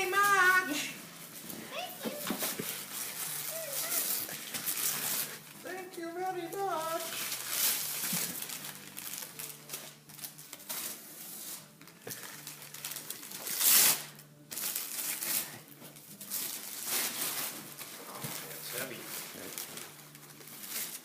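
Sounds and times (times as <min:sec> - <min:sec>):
wrapping paper rustling and tearing: 0:00.0 - 0:21.0.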